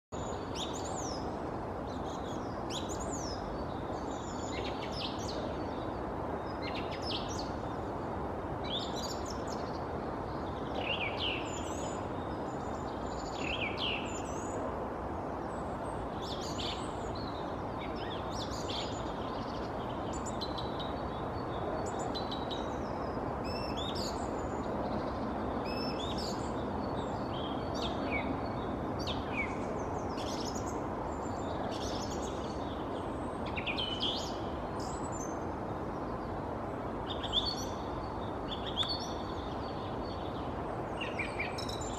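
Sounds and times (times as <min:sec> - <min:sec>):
steady background noise: 0:00.2 - 0:41.9.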